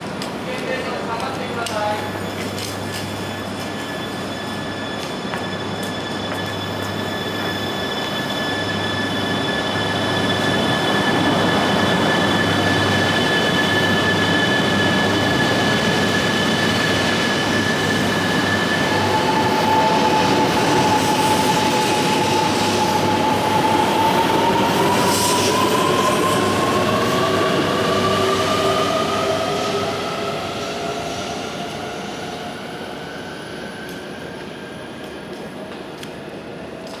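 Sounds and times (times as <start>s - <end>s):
train running noise: 0.0s - 37.0s.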